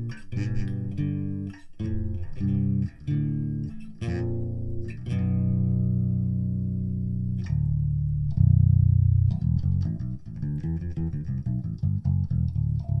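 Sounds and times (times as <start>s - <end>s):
electric bass guitar notes: 0.0s - 13.0s.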